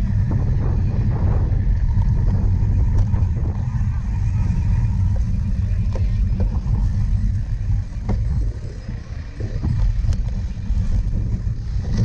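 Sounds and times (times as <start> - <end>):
bike knocks and rattles: 0.0 - 12.0
wind rumble on camera: 0.0 - 12.0.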